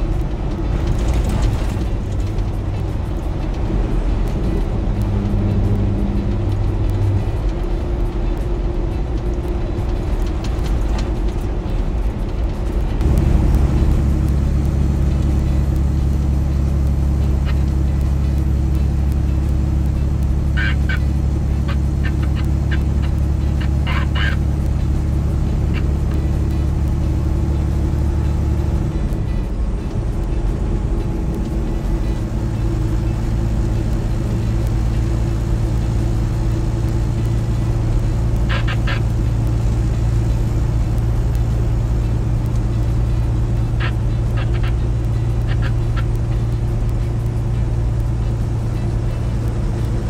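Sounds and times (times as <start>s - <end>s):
truck diesel engine droning: 0.0s - 50.0s.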